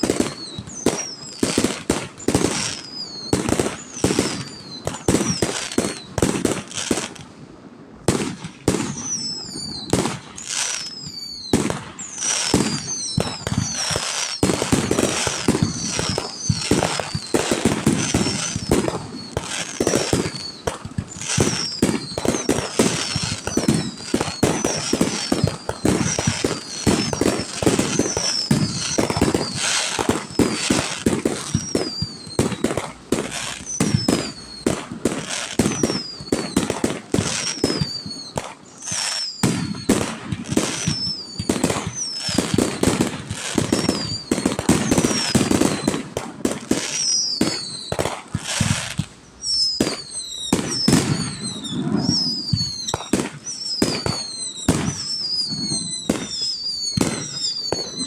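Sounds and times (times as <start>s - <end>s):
falling firework whistles: 0.0s - 7.3s, 8.0s - 58.0s
firework bangs and crackles: 0.0s - 58.0s.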